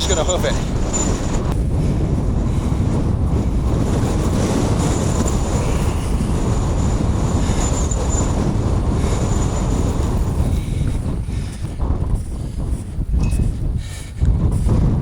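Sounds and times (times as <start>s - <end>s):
blizzard wind buffeting microphone: 0.0s - 15.0s.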